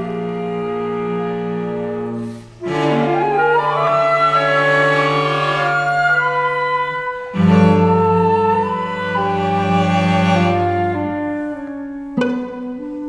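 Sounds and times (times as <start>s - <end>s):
orchestral music with bowed strings: 0.0s - 13.0s.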